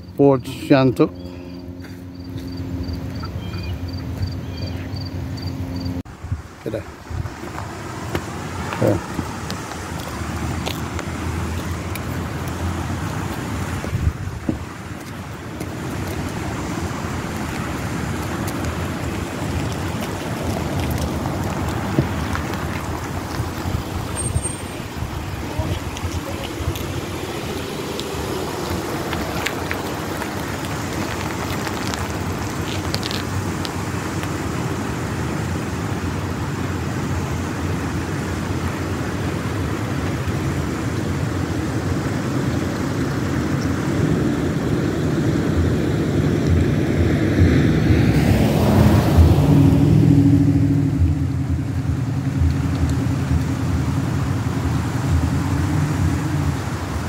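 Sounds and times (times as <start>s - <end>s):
engine hum: 0.0s - 57.0s
vehicle passing: 0.4s - 34.0s, 44.0s - 57.0s.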